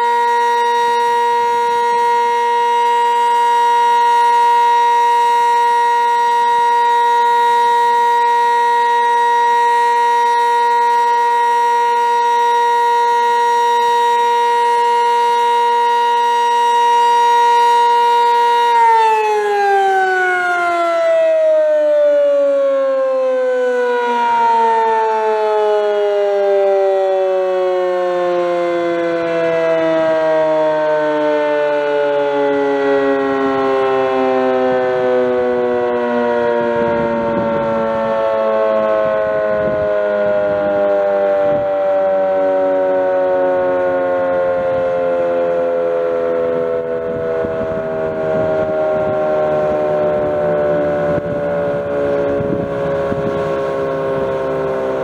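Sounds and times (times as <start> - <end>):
dual-tone warning siren winding down: 0.0 - 55.0.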